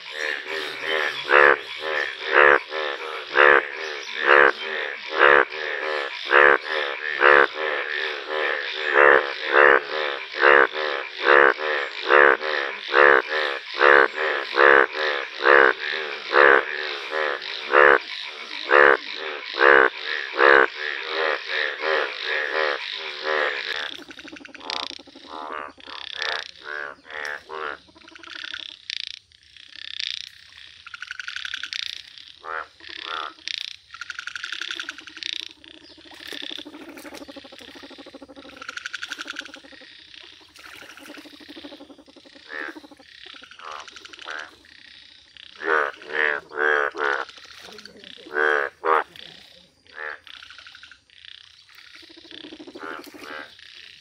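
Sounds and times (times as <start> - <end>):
bullfrogs croaking: 0.0 - 54.0.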